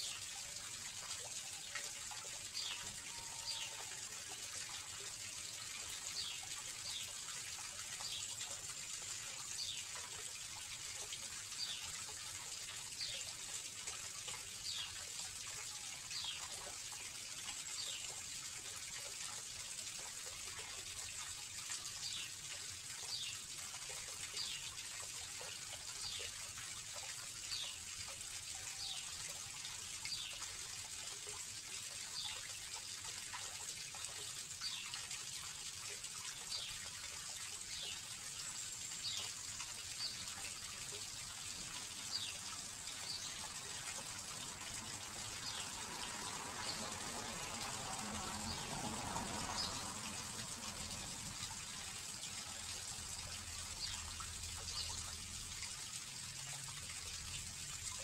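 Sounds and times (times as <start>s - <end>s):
water splashing into pond: 0.0s - 58.0s.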